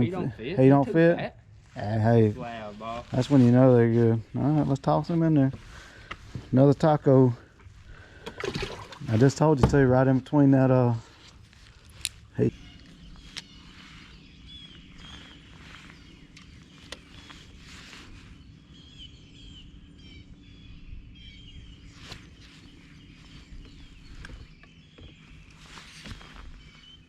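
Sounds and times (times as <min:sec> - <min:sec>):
birds chirping: 0:00.0 - 0:27.0
low steady hum: 0:00.0 - 0:27.0.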